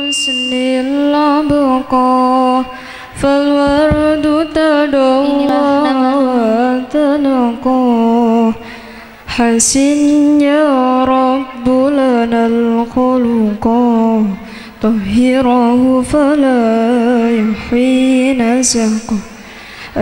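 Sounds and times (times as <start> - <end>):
person singing devotional chant: 0.0 - 20.0.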